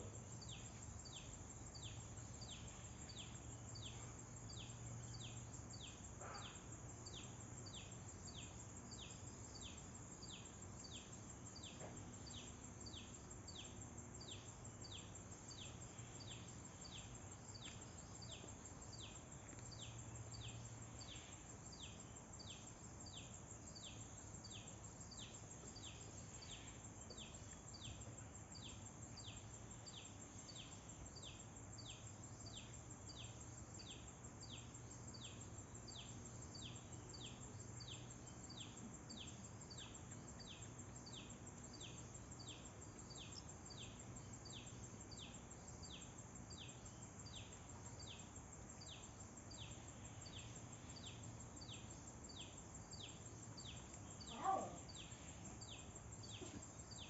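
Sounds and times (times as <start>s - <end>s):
bird chirping: 0.4s - 57.0s.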